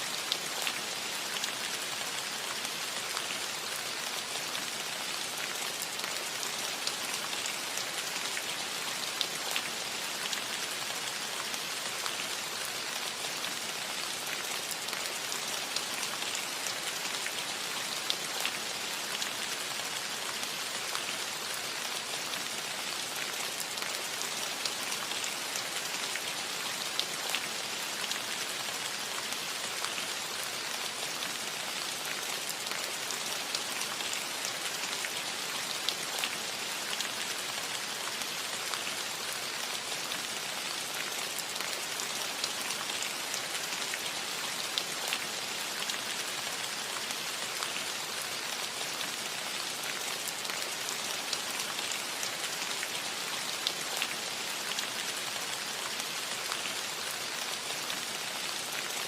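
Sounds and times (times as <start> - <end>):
rain pattering on a roof: 0.0 - 59.0.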